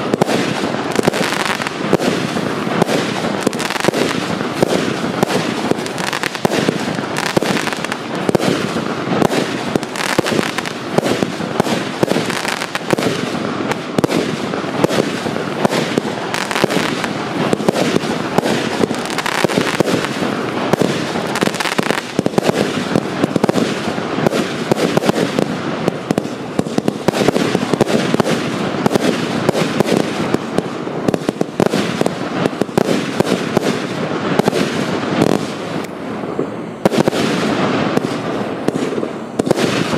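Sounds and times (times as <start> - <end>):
fireworks firing rapid shots: 0.0 - 39.9.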